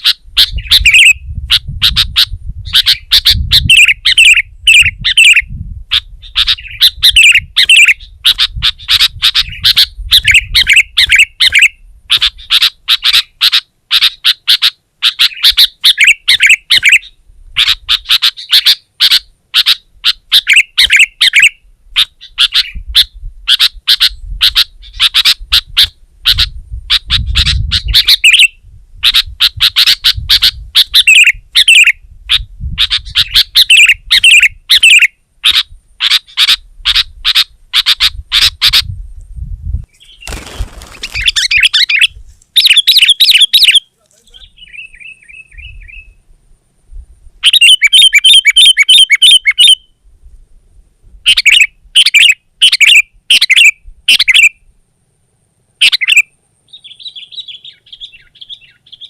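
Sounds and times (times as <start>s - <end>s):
bird chirping loudly: 0.0s - 38.9s, 40.0s - 46.2s, 47.4s - 50.0s, 51.3s - 54.6s, 55.8s - 59.0s.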